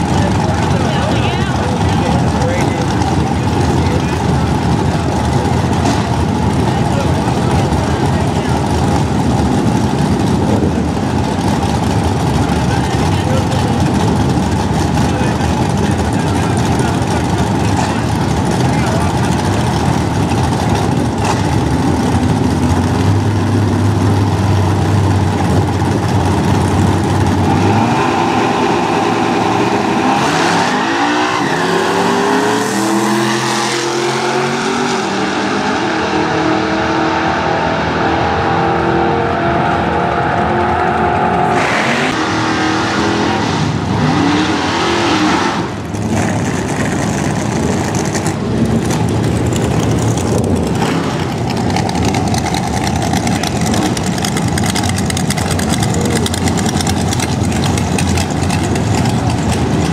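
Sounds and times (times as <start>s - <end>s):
car accelerating away: 0.0s - 59.9s
racing car engines running rough: 0.0s - 59.9s.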